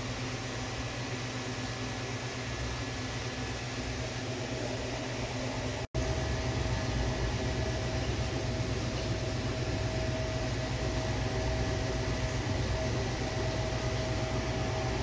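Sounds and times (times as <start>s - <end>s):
aquarium filter hum and hiss: 0.0s - 15.0s.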